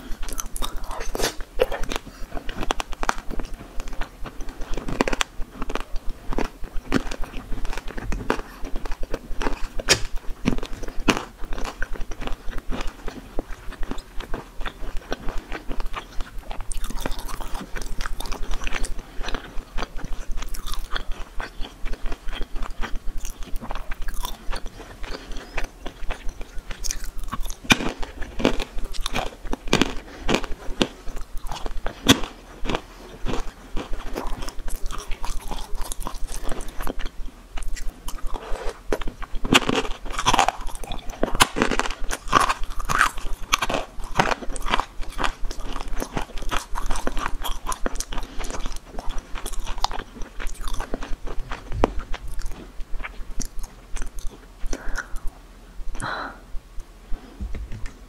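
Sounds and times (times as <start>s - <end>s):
person chewing crunchy snacks: 0.0s - 56.4s.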